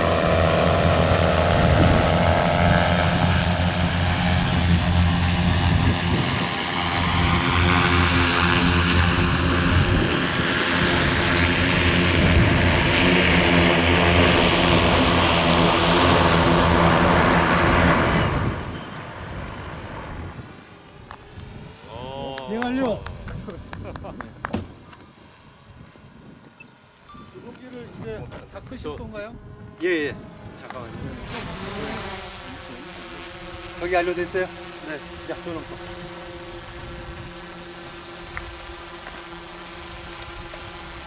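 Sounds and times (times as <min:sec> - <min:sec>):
drone propellers and motors humming: 0:00.0 - 0:41.0.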